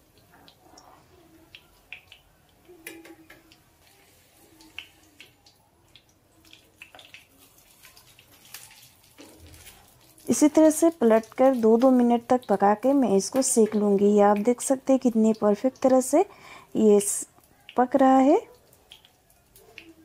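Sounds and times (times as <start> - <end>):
bread frying with faint crackles: 0.0 - 20.0.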